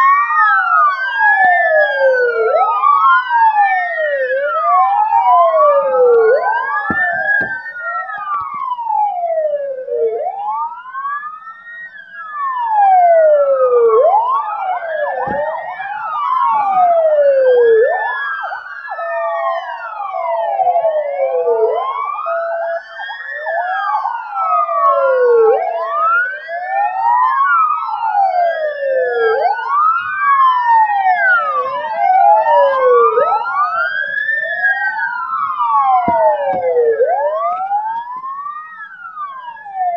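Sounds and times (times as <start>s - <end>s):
ambulance sirens wailing: 0.0s - 39.9s.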